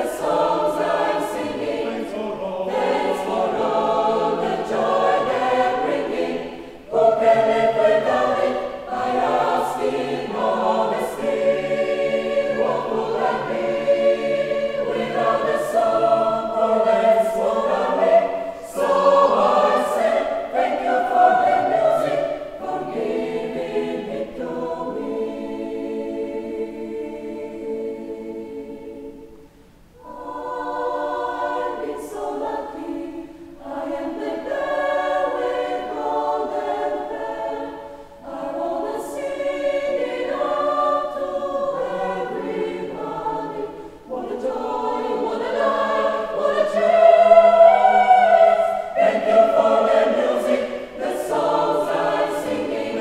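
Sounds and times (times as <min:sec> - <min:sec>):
mixed choir singing a cappella: 0:00.0 - 0:53.0.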